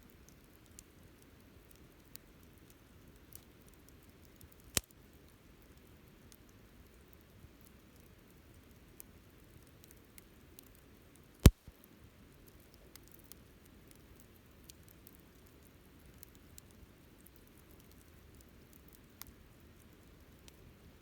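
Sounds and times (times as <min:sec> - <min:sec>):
wood fire crackling: 0:00.1 - 0:21.0.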